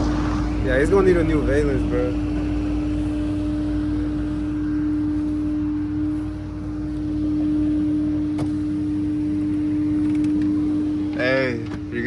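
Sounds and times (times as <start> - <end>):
vehicle droning hum: 0.0 - 12.0.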